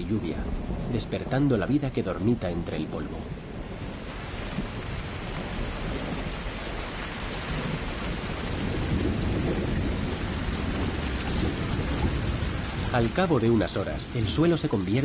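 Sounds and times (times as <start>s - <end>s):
rain falling on water: 0.0s - 15.0s
thunder rumbling: 0.0s - 15.0s.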